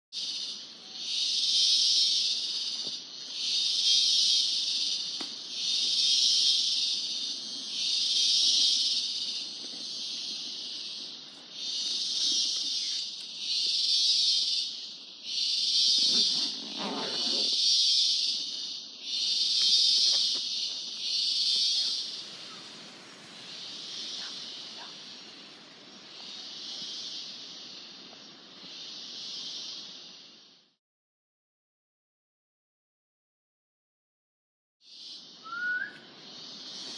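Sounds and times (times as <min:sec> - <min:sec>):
cicadas buzzing in pulses: 0:00.1 - 0:30.8, 0:34.8 - 0:36.9.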